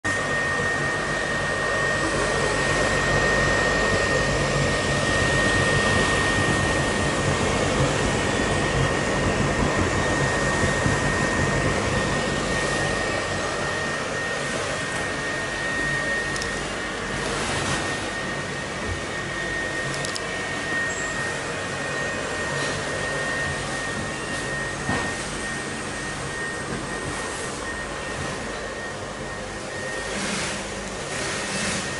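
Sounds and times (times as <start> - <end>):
electric blower rushing air: 0.1 - 31.9
high whine: 0.1 - 31.9.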